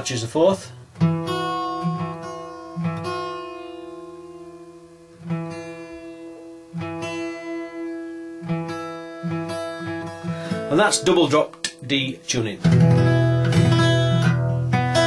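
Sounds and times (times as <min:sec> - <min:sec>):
acoustic guitar strings plucked: 0:00.7 - 0:15.0.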